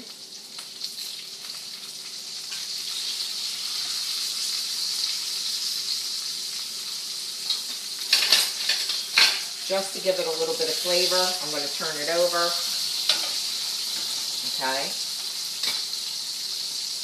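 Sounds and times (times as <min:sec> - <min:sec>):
lemon slices sizzling in oil: 0:00.0 - 0:17.0.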